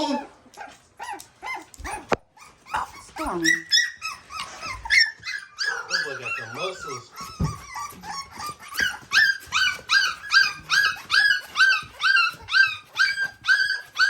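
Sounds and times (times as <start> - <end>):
puppies crying: 0.0 - 14.0.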